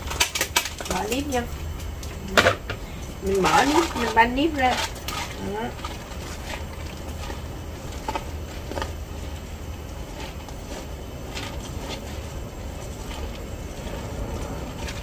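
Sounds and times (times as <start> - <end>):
foil crinkling: 0.0 - 15.0
low hum: 0.0 - 15.0.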